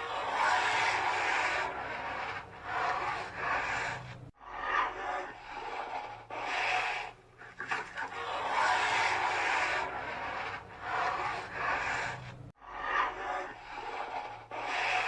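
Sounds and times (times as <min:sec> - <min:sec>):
polar bear rasping huffs: 0:00.0 - 0:15.0.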